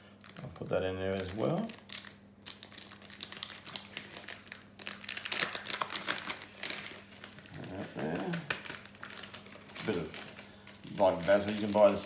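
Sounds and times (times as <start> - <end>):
plastic packet crinkling: 0.2 - 12.0.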